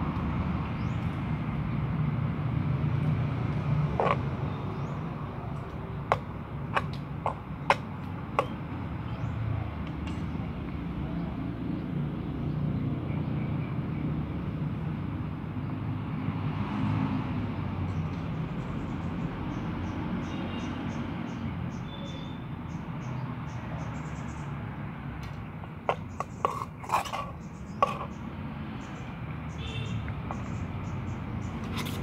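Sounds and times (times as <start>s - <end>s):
low rumble of traffic: 0.0s - 32.0s.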